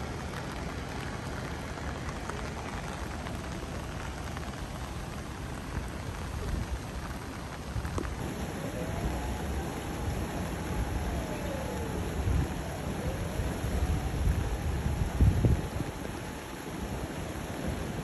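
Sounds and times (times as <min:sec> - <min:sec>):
heavy rain on puddles: 0:00.0 - 0:18.0.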